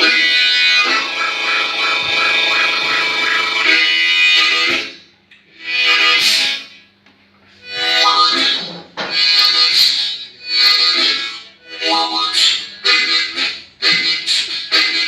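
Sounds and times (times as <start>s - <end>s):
blues harmonica playing: 0.0s - 6.9s, 7.5s - 15.0s.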